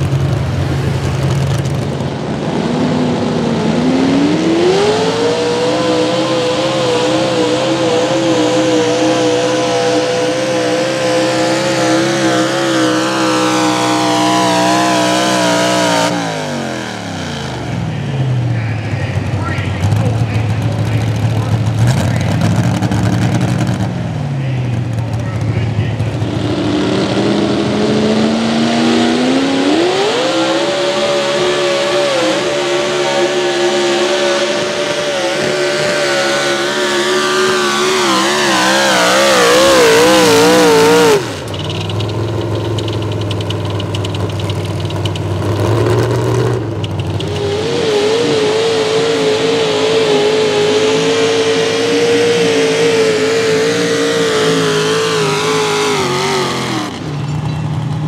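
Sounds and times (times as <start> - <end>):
second tractor engine high rpm: 0.0 - 58.0
tractor engine revving high: 0.0 - 58.0.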